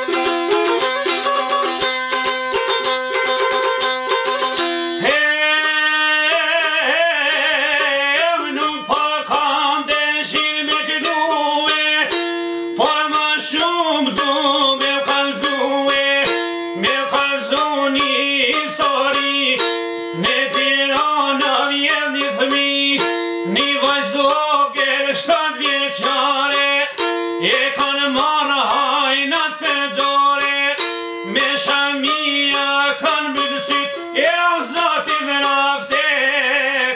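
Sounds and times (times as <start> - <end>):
two-string lute picked melody: 0.0 - 36.9.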